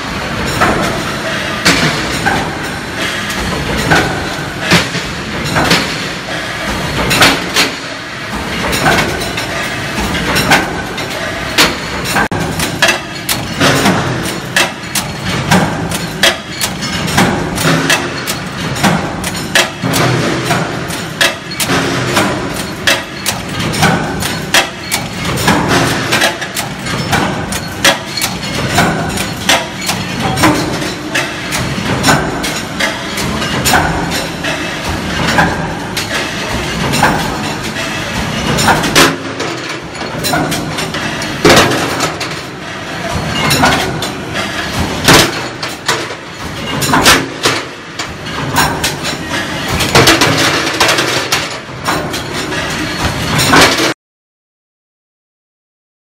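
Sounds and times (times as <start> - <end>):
continuous machine noise: 0.0 - 54.0
heavy metallic machine strikes: 0.0 - 54.0.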